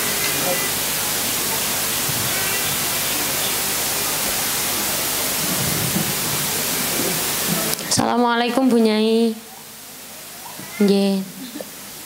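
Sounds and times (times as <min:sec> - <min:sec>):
hiss of rushing noise: 0:00.0 - 0:12.0.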